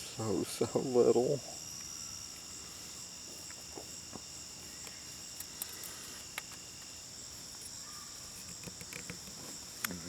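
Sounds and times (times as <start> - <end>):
crickets chirping chorus: 0.0 - 10.0.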